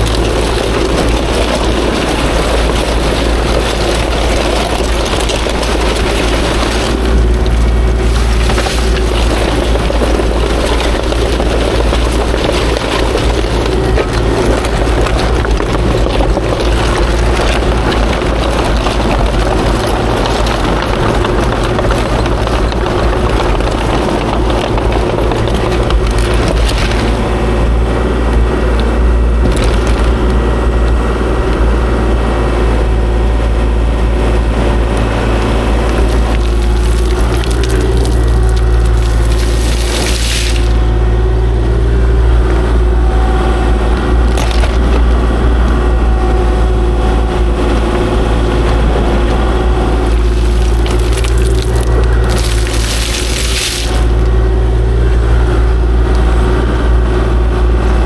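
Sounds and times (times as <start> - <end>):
rock crunching and scraping: 0.0 - 31.9, 34.9 - 42.2, 43.3 - 55.5
excavator diesel engine running: 0.0 - 58.0.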